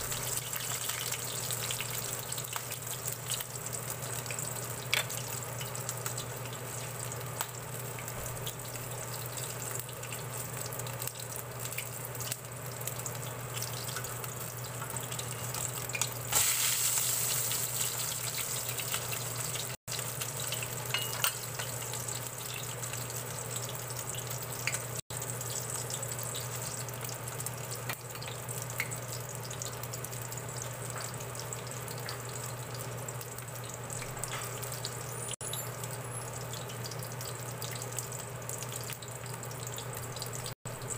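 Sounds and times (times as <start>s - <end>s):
fritters sizzling in oil: 0.0s - 40.9s.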